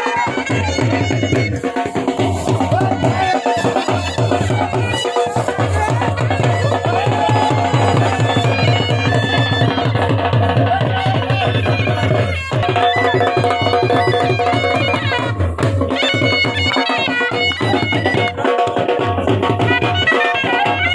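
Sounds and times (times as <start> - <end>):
dhol drum beating: 0.0 - 20.9
reed wind instrument folk tune: 0.0 - 20.9.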